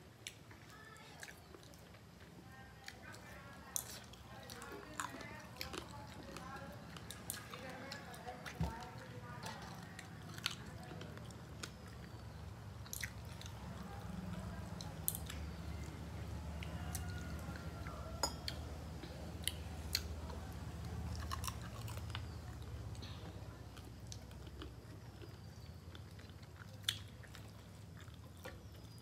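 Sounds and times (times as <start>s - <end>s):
chewing and mouth smacks: 0.2s - 29.0s.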